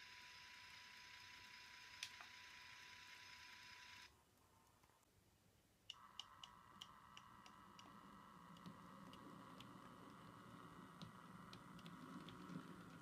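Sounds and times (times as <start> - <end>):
faint motor whine: 0.0 - 4.2, 5.9 - 13.0.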